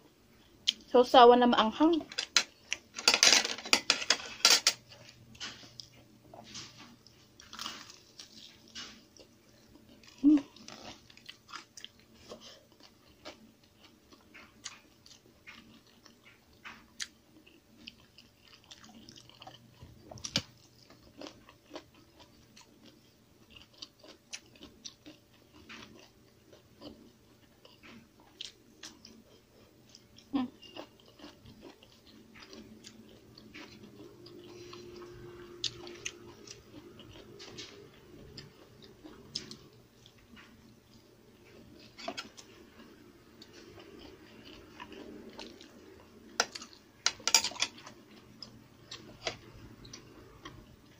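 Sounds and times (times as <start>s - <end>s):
chewing and biting food: 4.9s - 46.8s.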